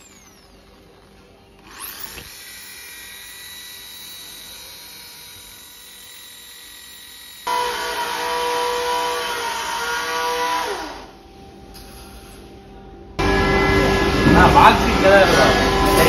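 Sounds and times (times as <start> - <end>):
electric drill whining: 0.0 - 12.5, 15.3 - 16.0
lower-pitched motor: 0.0 - 16.0.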